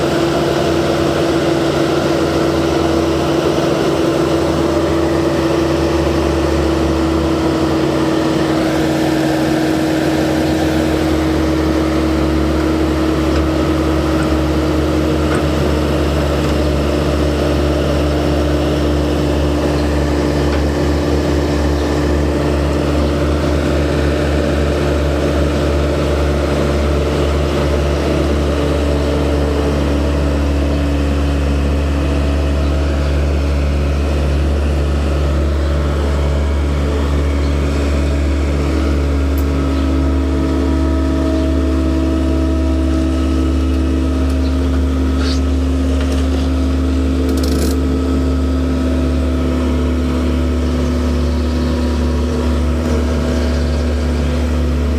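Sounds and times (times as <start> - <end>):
farm machine engine droning: 0.0 - 54.9.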